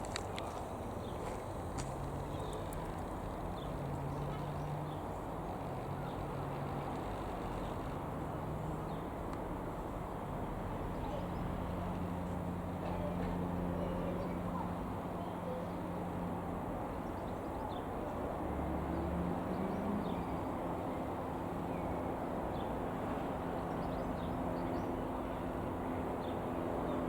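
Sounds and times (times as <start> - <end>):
small airplane engine droning: 0.0 - 27.0.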